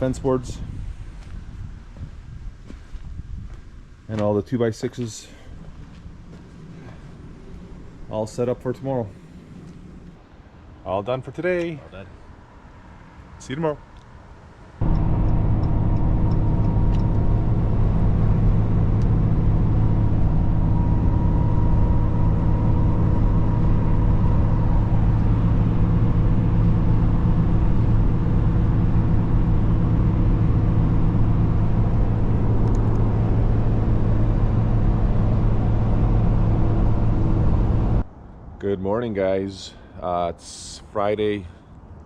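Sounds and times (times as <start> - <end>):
vehicle engine humming: 0.0 - 38.2.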